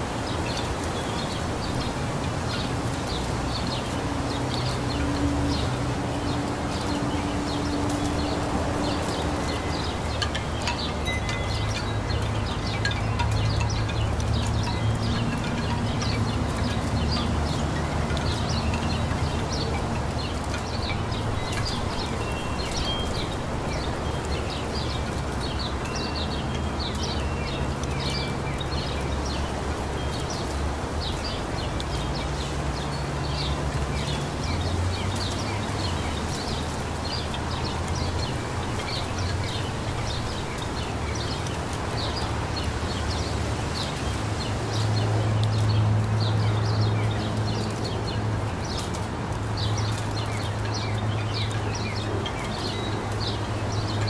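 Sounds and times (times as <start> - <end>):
breeze rustling trees: 0.0 - 54.0
small birds chirping: 0.0 - 54.0.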